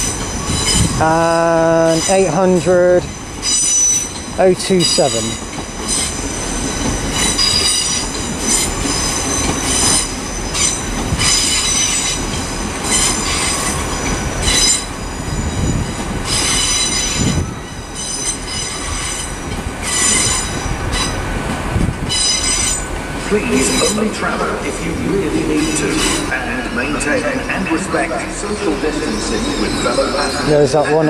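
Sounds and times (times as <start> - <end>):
train wheels squealing: 0.0 - 21.3, 22.1 - 31.0
train rumble: 0.0 - 31.0.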